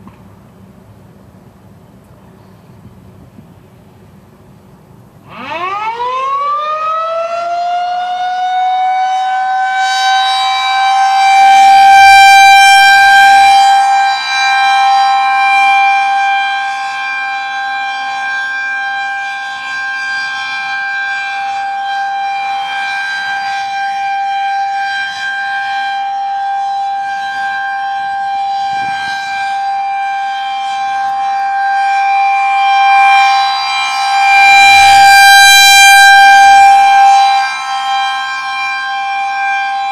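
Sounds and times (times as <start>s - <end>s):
rotating warning siren: 2.7s - 39.9s.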